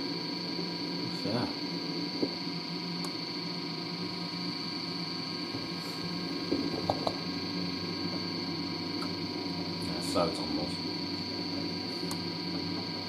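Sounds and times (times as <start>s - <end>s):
washer-dryer humming: 0.0s - 13.0s.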